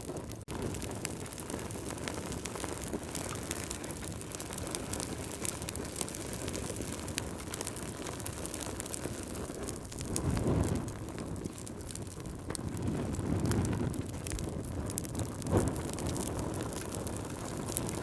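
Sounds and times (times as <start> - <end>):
fire crackling and popping: 0.0 - 18.0
rush of flames: 0.0 - 18.0.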